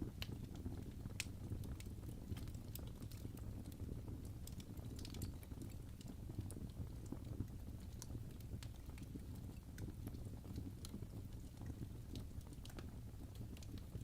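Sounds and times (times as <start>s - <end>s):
fire low rumble: 0.0s - 14.0s
wood fire crackling: 0.0s - 14.0s.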